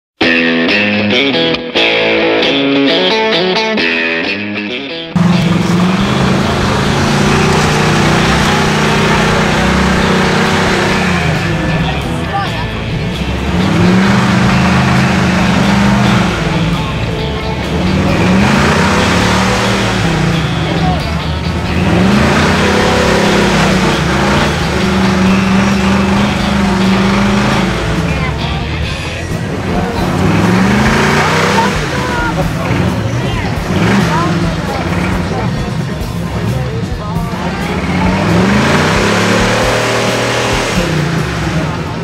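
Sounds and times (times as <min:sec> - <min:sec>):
car engine revving in mud: 0:05.2 - 0:42.0.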